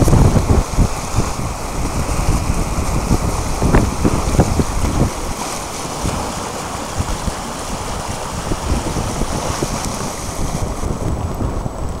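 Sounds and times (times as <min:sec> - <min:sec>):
seawater flowing fast: 0:00.0 - 0:12.0
wind on microphone: 0:00.0 - 0:12.0.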